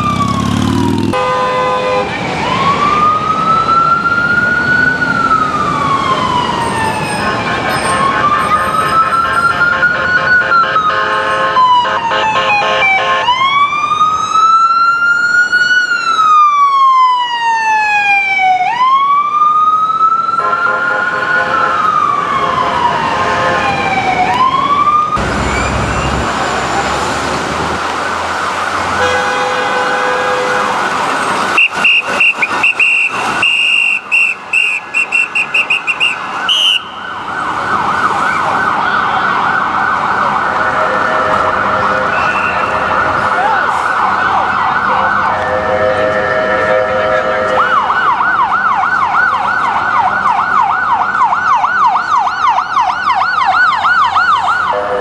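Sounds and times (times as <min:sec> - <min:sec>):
ambulance siren: 0:00.0 - 0:55.0.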